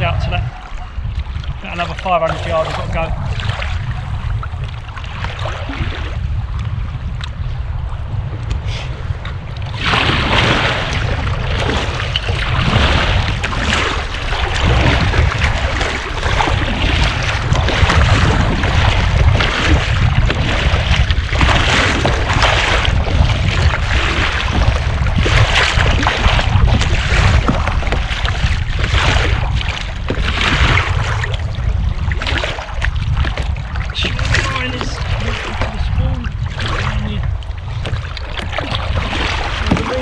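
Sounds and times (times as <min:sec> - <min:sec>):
kayak paddle splashing: 0:00.0 - 0:40.0
wind rumble on microphone: 0:00.0 - 0:40.0.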